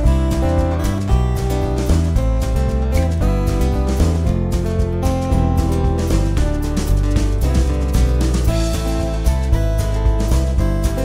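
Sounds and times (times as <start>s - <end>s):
instrumental guitar music: 0.0s - 11.0s.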